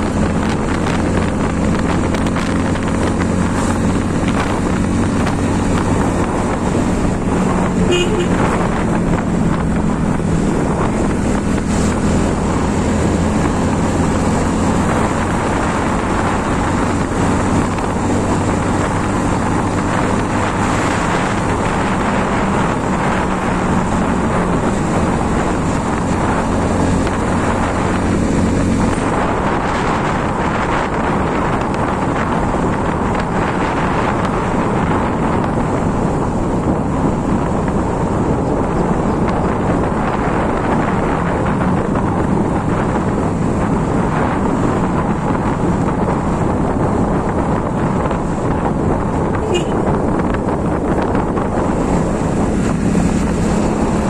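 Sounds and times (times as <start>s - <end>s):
motorcycle engine hum: 0.0s - 54.0s
wind rush on microphone: 0.0s - 54.0s.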